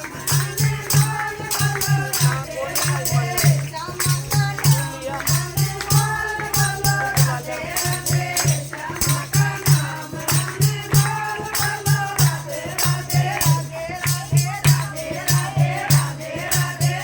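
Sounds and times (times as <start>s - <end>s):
group singing: 0.0s - 17.0s
jingling hand percussion: 0.0s - 17.0s
quick drum beat: 0.0s - 17.0s.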